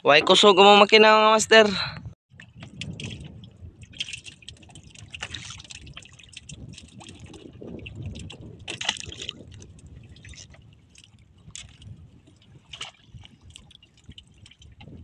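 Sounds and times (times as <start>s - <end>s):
water lapping against boat hull: 2.3s - 15.0s.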